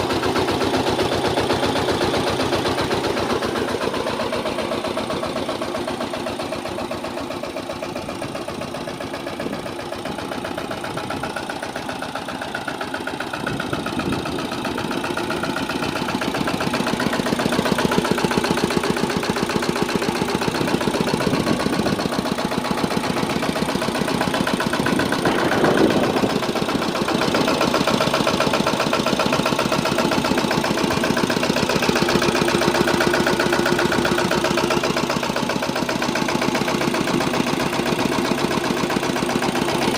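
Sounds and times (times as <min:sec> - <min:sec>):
mini tractor engine running: 0:00.0 - 0:39.9.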